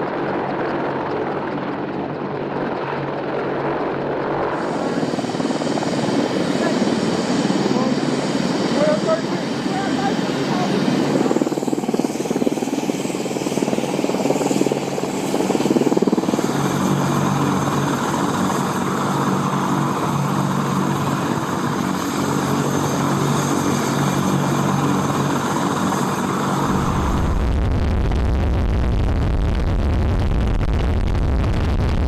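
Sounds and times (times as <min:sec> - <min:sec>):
helicopter rotor and turbine: 0:00.0 - 0:32.0
steady hum: 0:04.4 - 0:32.0.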